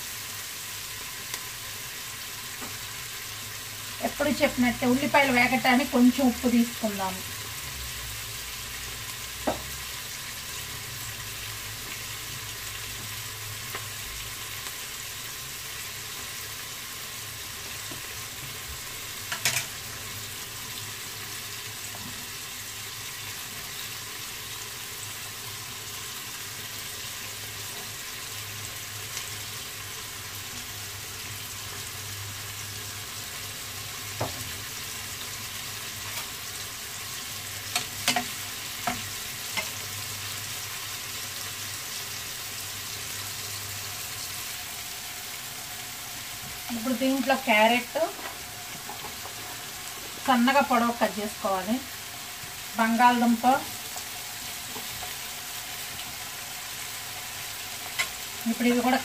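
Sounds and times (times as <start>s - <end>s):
onions sizzling in butter: 0.0s - 59.0s.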